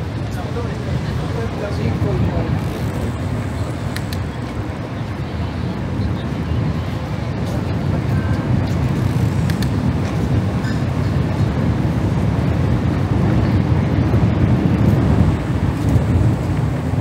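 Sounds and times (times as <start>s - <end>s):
low rumble of street noise: 0.0s - 17.0s.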